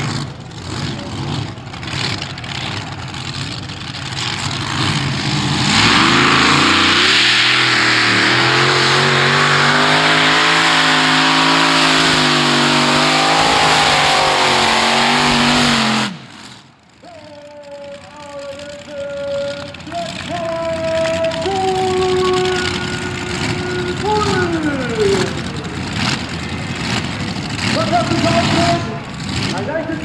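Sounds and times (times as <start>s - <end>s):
pulling tractor engine revving: 0.0s - 30.0s.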